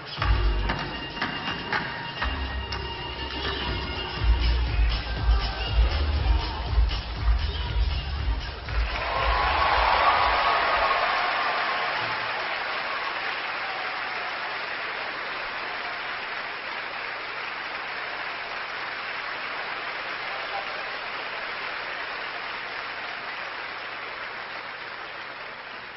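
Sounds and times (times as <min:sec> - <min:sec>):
audience applauding: 0:04.7 - 0:25.9.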